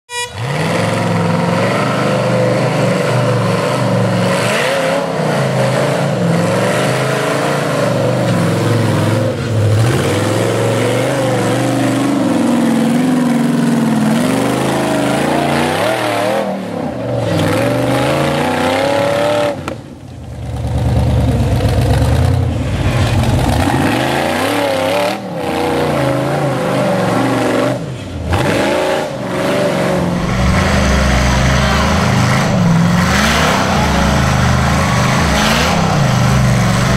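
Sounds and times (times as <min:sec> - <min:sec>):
buggy engine revving hard: 0:00.1 - 0:19.8, 0:20.5 - 0:36.9.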